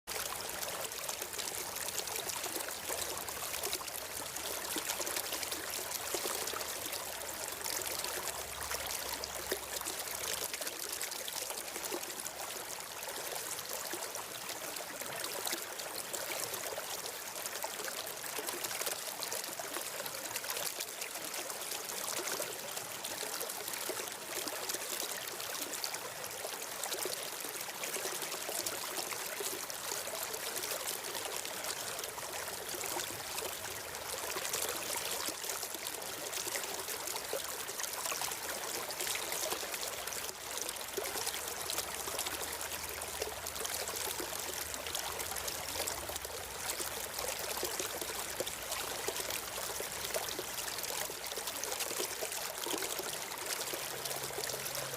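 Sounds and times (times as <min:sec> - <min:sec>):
stream water babbling: 0:00.1 - 0:54.9.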